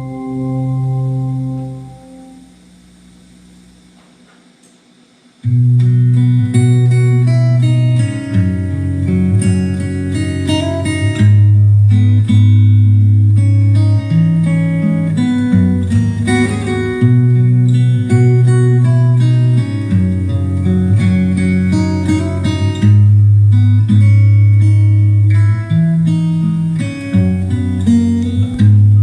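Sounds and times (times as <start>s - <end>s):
plucked acoustic guitar: 0.0s - 2.5s, 5.4s - 29.0s
steady bass line: 0.0s - 3.9s, 5.5s - 29.0s.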